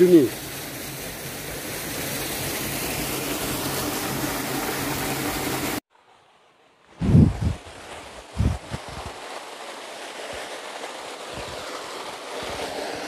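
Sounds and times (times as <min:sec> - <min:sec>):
waterfall splashing into pool: 0:00.0 - 0:05.8, 0:07.6 - 0:13.0.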